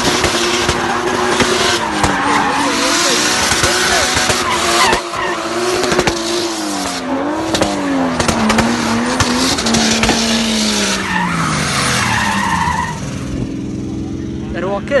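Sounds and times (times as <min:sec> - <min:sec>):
sharp exhaust crackles: 0:00.0 - 0:13.3
car engine revving: 0:00.0 - 0:15.0
tyres squealing: 0:00.1 - 0:13.2.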